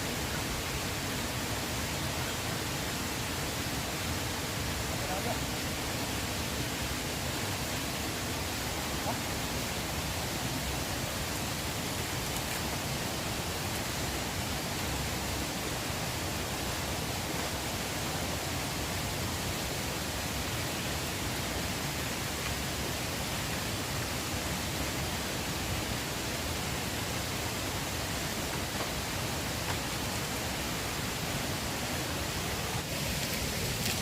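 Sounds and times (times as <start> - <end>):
flowing river water: 0.0 - 34.0.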